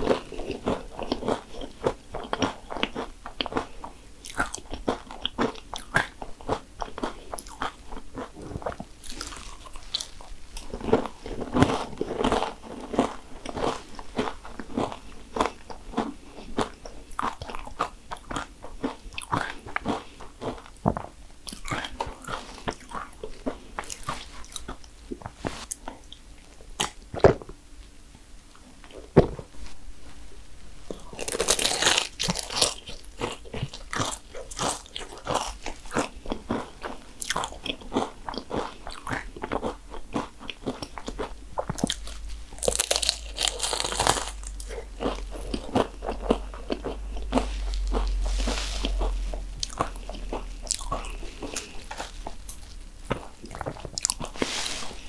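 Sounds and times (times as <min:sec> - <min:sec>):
chewing: 0:00.0 - 0:27.0, 0:28.5 - 0:55.0
pastry shells crunching: 0:04.3 - 0:24.8, 0:30.9 - 0:55.0.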